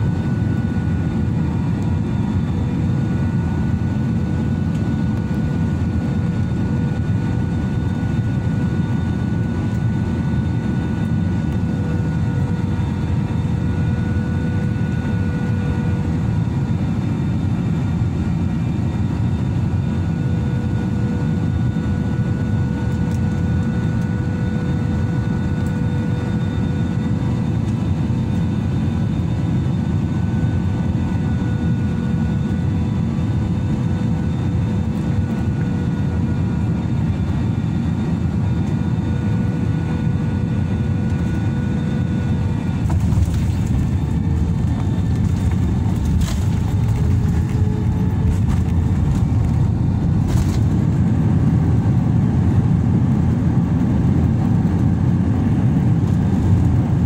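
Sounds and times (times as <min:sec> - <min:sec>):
jet engine rumble and whine: 0:00.0 - 0:57.0.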